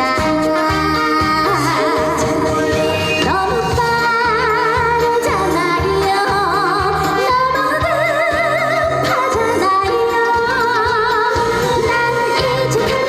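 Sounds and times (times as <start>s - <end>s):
backing track with steady beat: 0.0s - 13.0s
woman singing with vibrato: 0.0s - 13.0s.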